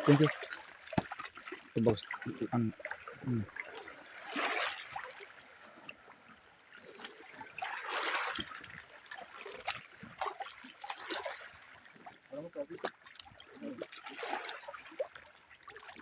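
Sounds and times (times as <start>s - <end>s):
water dribbling and splattering: 0.0s - 16.0s.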